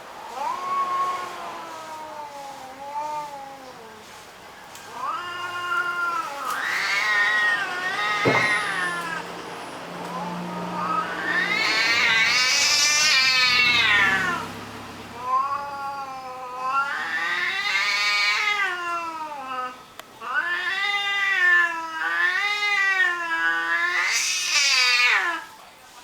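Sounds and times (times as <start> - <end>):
cats caterwauling: 0.1 - 25.6.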